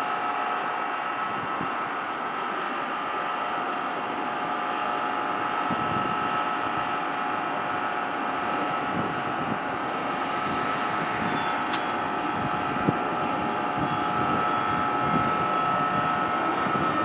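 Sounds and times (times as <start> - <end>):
train rolling on track: 0.0 - 17.0.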